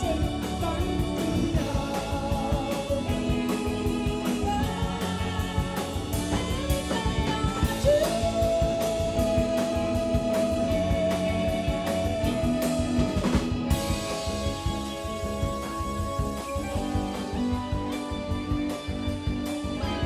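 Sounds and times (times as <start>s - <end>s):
drum kit: 0.0s - 20.0s
electric bass: 0.0s - 20.0s
electric guitar: 0.0s - 20.0s.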